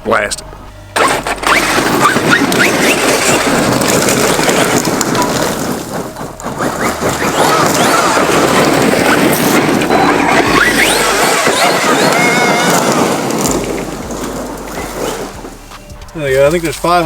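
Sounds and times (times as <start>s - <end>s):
tire and ground noise: 0.0s - 17.0s
rc truck motor whine: 0.7s - 15.7s.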